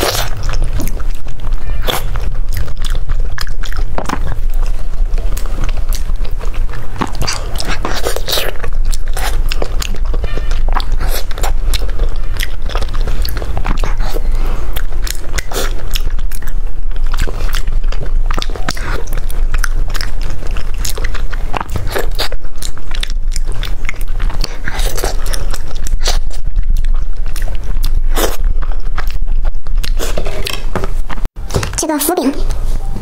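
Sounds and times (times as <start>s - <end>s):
crunchy chewing: 0.0s - 31.3s
wet mouth sounds: 0.0s - 31.3s.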